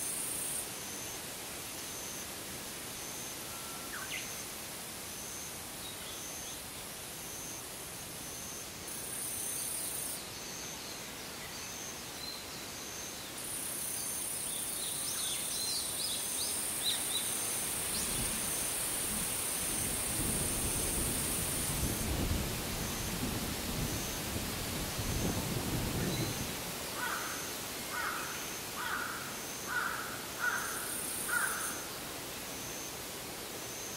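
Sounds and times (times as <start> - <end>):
insects hissing: 0.0 - 33.9.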